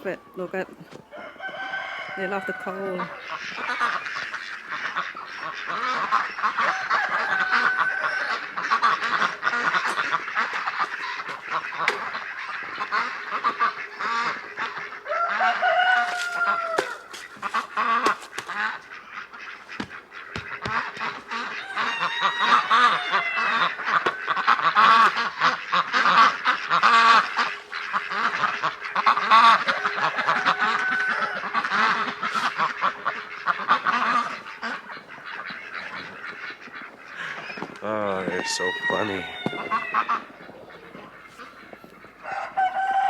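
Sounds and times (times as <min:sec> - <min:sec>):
ducks quacking: 0:00.0 - 0:43.0.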